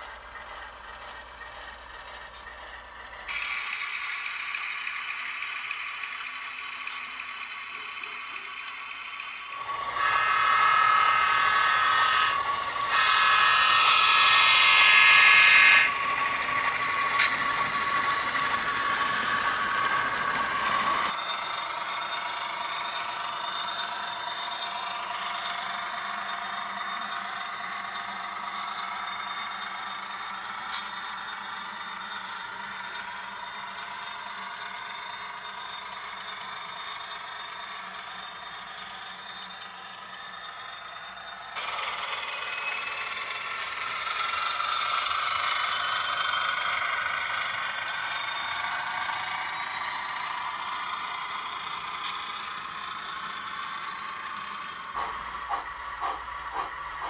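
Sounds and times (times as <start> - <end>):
model train motors whining: 0.0 - 57.0
wheels clattering on track: 10.8 - 57.0.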